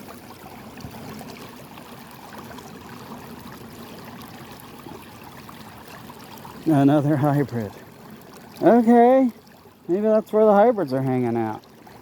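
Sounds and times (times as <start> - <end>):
creek water rushing over rapids: 0.0 - 12.0.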